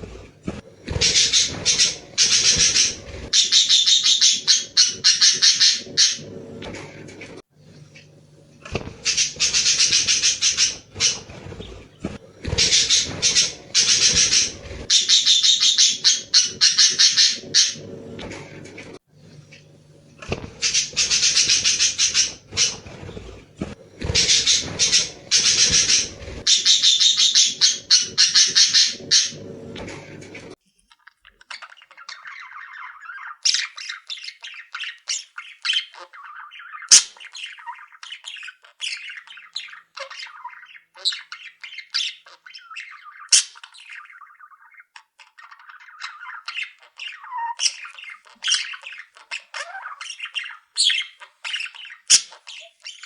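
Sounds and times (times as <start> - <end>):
caged birds chattering and squawking: 0.0 - 53.0.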